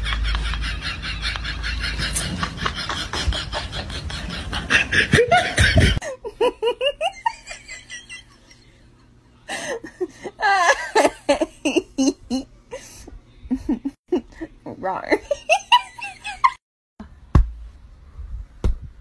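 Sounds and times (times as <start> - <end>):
people laughing: 0.0 - 12.9, 13.5 - 14.5, 15.2 - 16.6.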